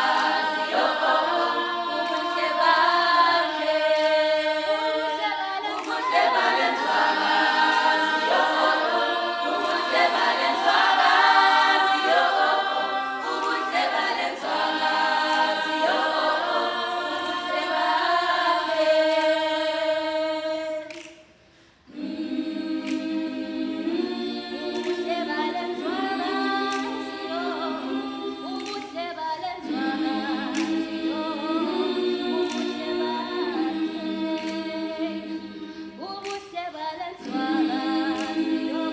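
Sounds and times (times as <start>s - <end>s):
girls' choir singing a cappella: 0.0s - 38.9s.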